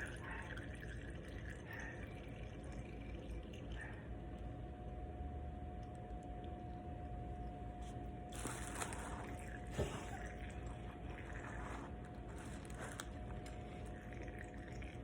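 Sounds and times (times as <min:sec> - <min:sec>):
oil trickling into container: 0:00.0 - 0:05.0, 0:05.6 - 0:15.0.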